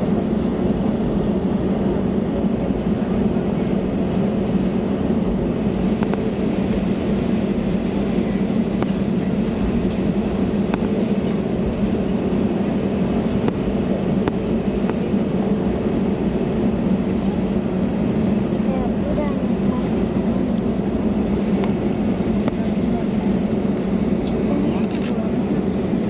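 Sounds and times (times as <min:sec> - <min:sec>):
aircraft cabin engine hum: 0:00.0 - 0:26.0.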